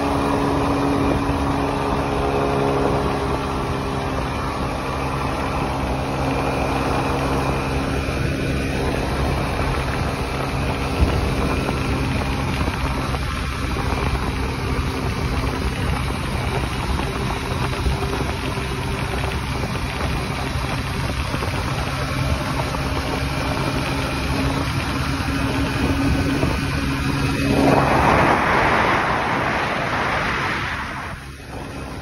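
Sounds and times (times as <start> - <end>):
scooter engine running: 0.0 - 32.0
wind and road noise: 0.0 - 32.0.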